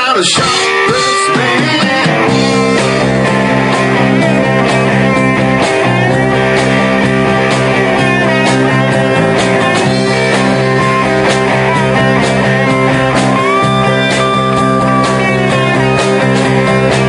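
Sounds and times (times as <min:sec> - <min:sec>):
live rock band playing: 0:00.0 - 0:17.0
drum hits: 0:00.3 - 0:17.0.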